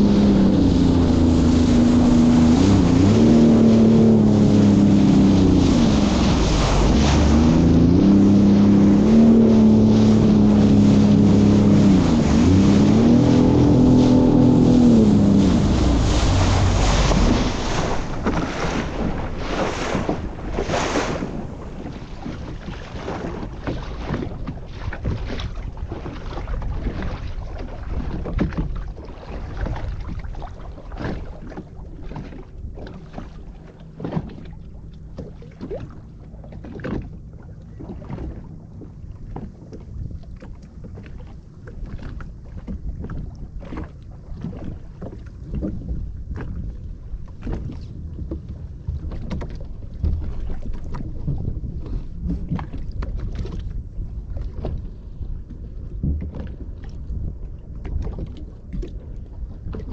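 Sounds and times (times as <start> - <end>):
water splashing against boat hull: 0.0 - 59.9
wind on microphone: 0.0 - 59.9.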